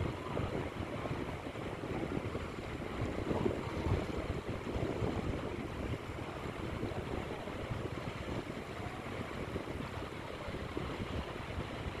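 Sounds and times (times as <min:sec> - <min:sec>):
small waves breaking on beach: 0:00.0 - 0:12.0
wind buffeting microphone: 0:00.0 - 0:12.0.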